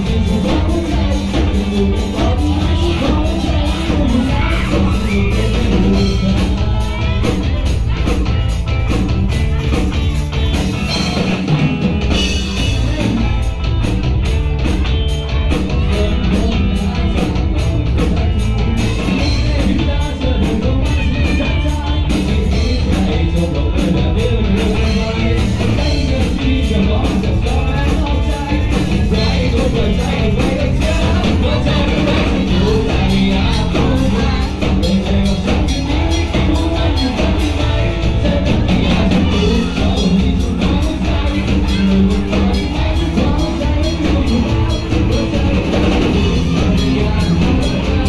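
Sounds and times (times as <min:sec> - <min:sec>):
bass guitar: 0:00.0 - 0:48.0
drum kit: 0:00.0 - 0:48.0
electric guitars: 0:00.0 - 0:48.0
person singing: 0:00.0 - 0:48.0.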